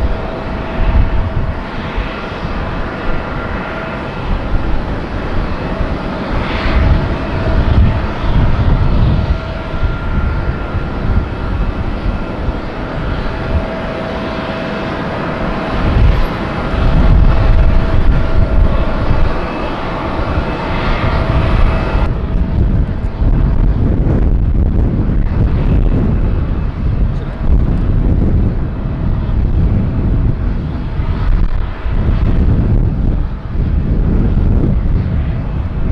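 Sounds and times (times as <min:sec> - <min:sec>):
jet airliner engines rumbling: 0:00.0 - 0:35.9.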